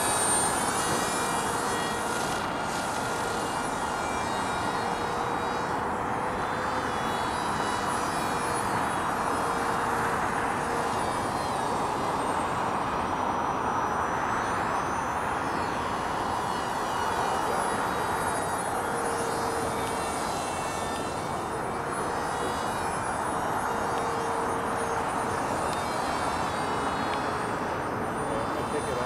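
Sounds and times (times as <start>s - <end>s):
high-pitched motor whine: 0.0s - 29.0s
model plane propeller buzzing: 0.0s - 29.0s.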